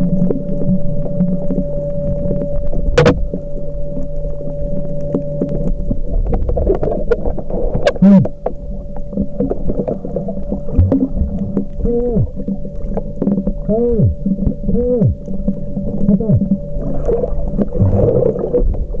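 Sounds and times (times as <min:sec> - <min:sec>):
steady hum: 0:00.0 - 0:19.0
underwater rumble: 0:00.0 - 0:19.0.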